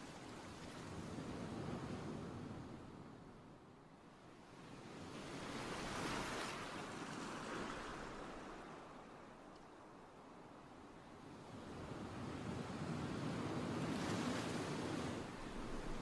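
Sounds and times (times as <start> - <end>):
faint sea waves washing in: 0.0 - 16.0.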